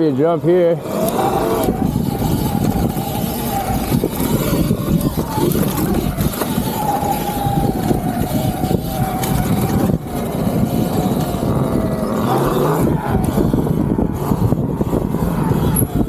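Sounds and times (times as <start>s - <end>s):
electric motor whine: 0.8s - 16.0s.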